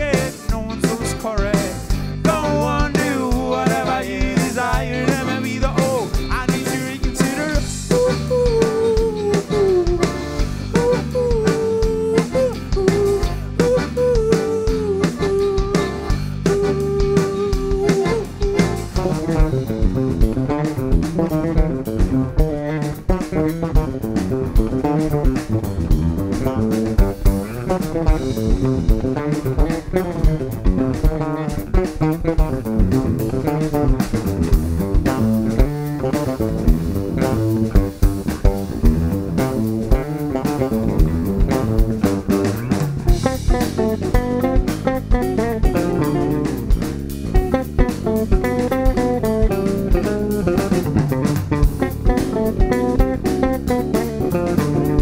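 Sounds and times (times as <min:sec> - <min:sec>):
bass guitar: 0:00.0 - 0:55.0
drum kit beat: 0:00.0 - 0:55.0.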